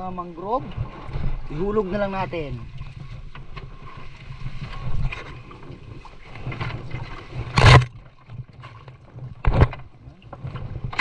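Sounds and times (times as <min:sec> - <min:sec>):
water splashing beside boat: 0:00.0 - 0:11.0.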